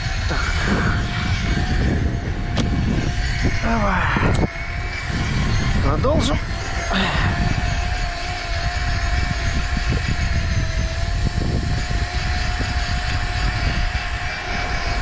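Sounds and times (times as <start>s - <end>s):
electric fishing reel whine: 0.0s - 15.0s
low rumble: 0.0s - 15.0s.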